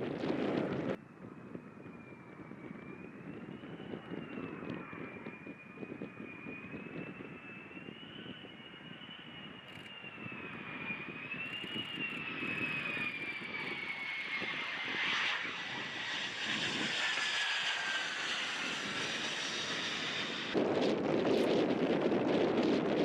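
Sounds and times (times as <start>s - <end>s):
jet engine whine and rush: 0.0s - 23.0s.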